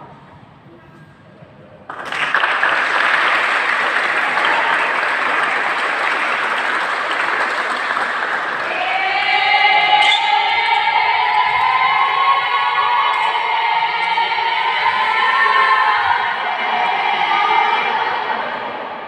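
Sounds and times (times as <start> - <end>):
crowd applause: 1.9 - 18.2.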